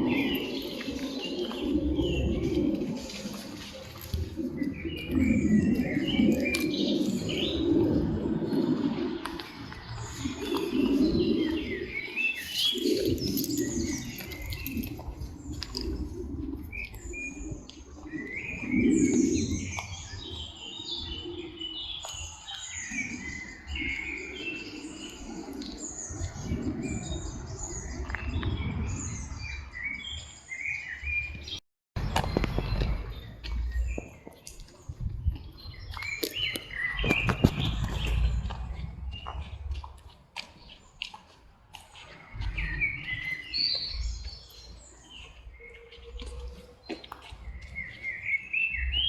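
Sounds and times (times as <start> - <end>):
songbirds chirping and singing: 0.0 - 49.0.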